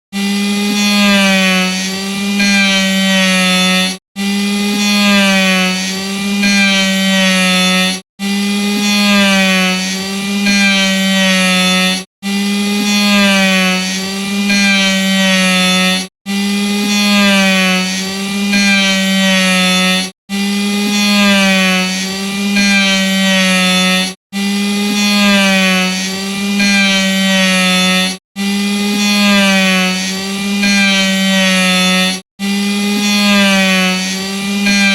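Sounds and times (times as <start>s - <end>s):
electric saw whining: 0.1s - 34.9s.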